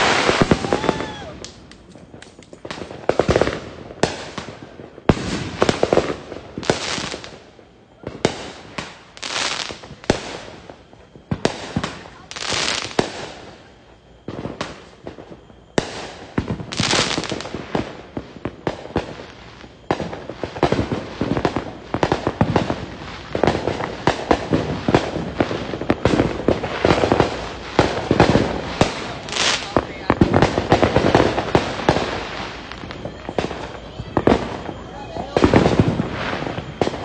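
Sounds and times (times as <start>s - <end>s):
firecrackers popping and cracking: 0.0s - 37.0s
fireworks hissing: 0.0s - 37.0s.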